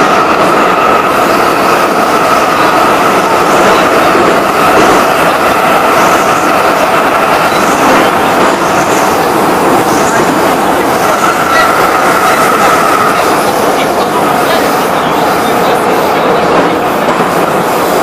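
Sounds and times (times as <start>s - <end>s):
subway wheel and rail rumble: 0.0s - 18.0s.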